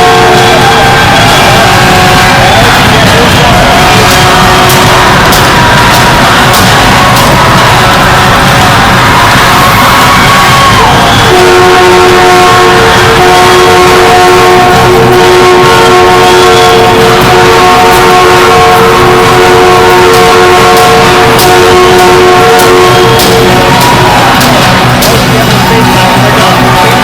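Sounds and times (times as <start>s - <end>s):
horn chord: 0.0s - 27.0s
loud noisy crowd: 0.0s - 27.0s.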